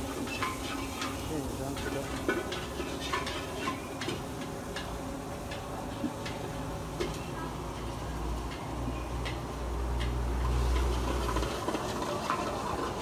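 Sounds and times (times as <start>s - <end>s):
stirring machine hum: 0.0s - 13.0s
wire stirrer scraping wok: 0.0s - 13.0s.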